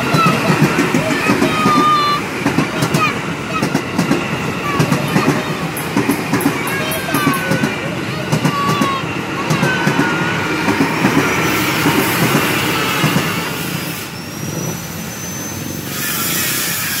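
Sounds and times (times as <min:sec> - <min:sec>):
train wheels clattering on rails: 0:00.0 - 0:15.0.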